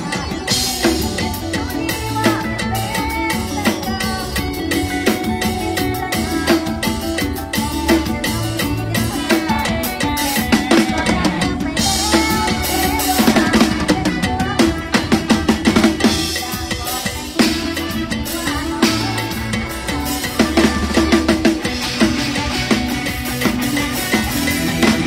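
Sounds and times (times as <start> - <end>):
band music: 0.0 - 25.0
drum kit beat: 0.0 - 25.0.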